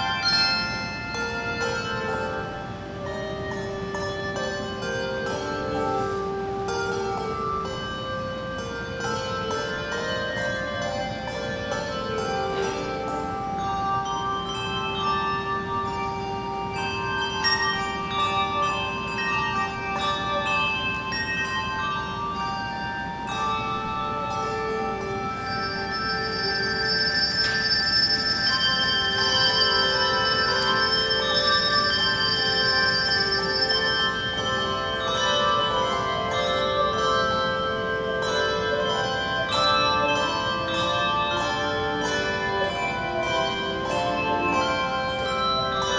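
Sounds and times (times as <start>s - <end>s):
handbells ringing: 0.0s - 45.9s
low bell tone held: 0.0s - 45.9s.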